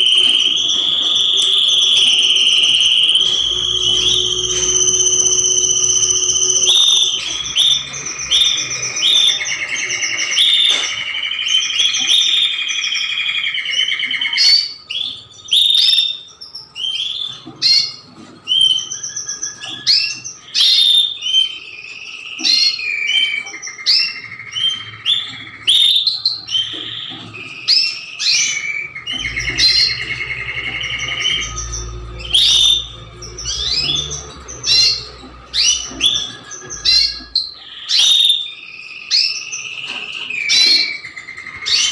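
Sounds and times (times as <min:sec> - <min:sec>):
canaries singing: 0:00.0 - 0:41.9.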